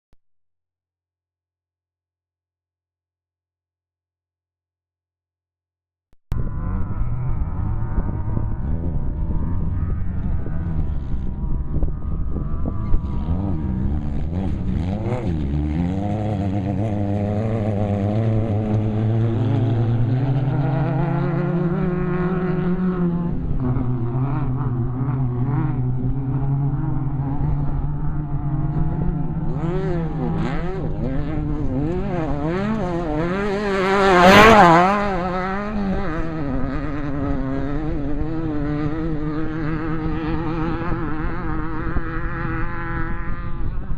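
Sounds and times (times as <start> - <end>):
race vehicle engines revving: 6.3 - 43.9
vehicle passing by: 6.4 - 43.9.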